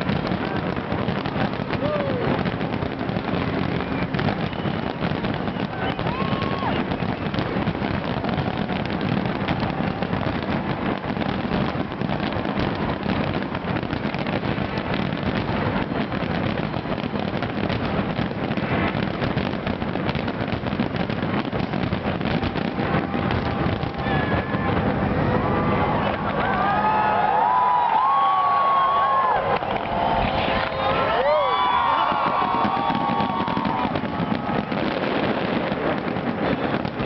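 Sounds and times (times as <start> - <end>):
fireworks crackling and banging: 0.0 - 37.0.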